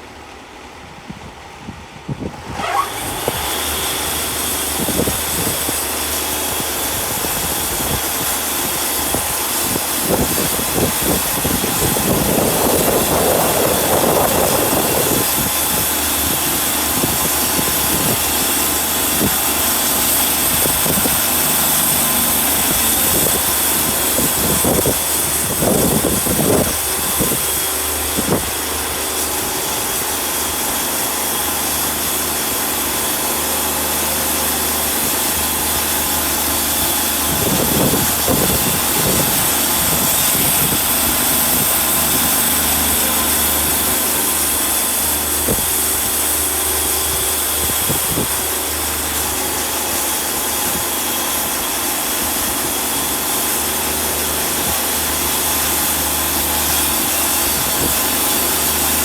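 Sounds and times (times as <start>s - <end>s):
band sawmill cutting log: 2.3s - 59.0s.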